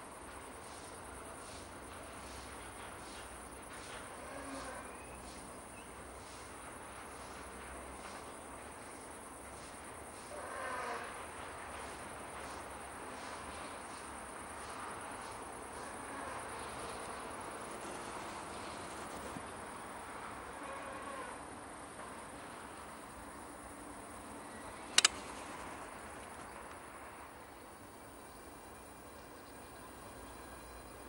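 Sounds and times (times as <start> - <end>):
crickets trilling: 0.0 - 31.0
freight train passing: 0.0 - 31.0.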